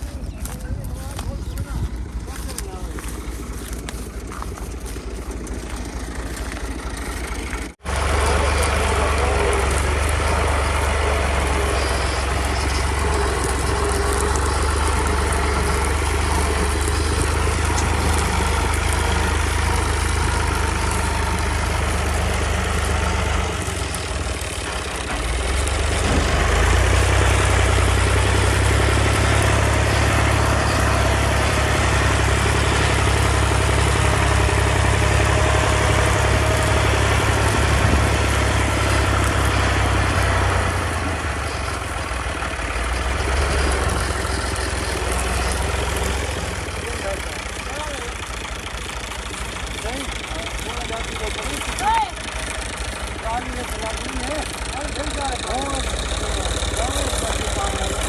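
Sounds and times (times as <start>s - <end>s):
tractor and thresher droning: 0.0s - 58.0s.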